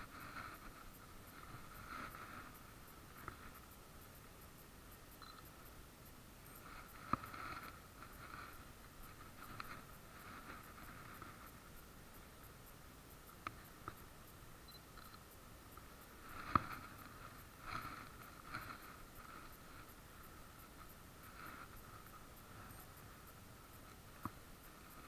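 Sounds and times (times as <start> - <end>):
low muffled background: 0.0 - 25.0.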